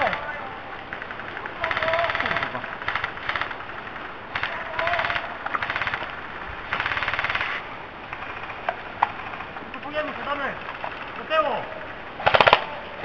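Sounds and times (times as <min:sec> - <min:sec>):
airsoft rifles firing bursts: 0:00.0 - 0:11.6, 0:12.2 - 0:13.0.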